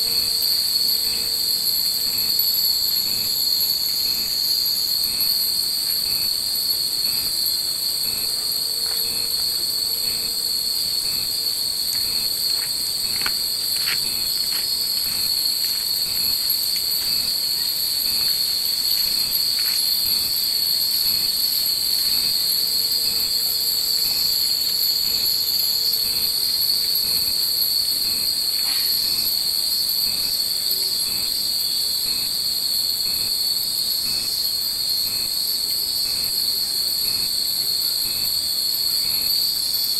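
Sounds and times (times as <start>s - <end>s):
cicadas shrilling: 0.0s - 39.9s.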